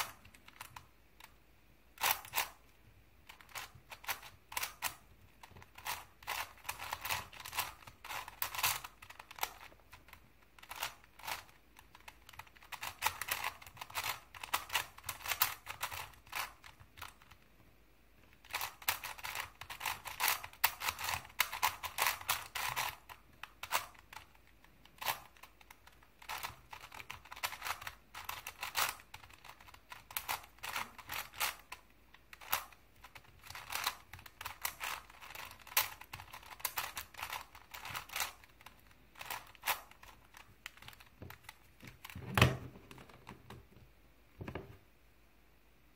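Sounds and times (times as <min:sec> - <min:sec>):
plastic puzzle cube clicking: 0:00.0 - 0:01.4, 0:02.0 - 0:17.5, 0:18.2 - 0:43.6.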